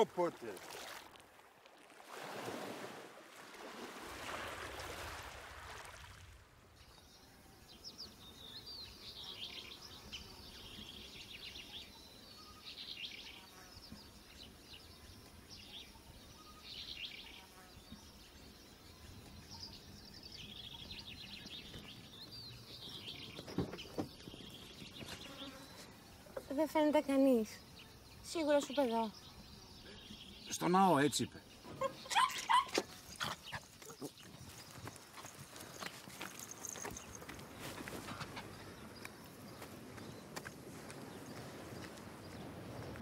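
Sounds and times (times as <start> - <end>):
birds chirping: 0.0 - 0.6, 6.7 - 43.0
faint outdoor background noise: 0.0 - 43.0.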